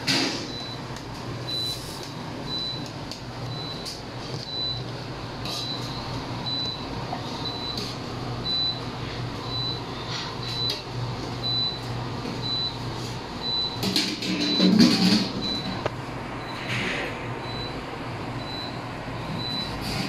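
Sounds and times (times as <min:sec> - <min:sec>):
low appliance hum: 0:00.0 - 0:20.0.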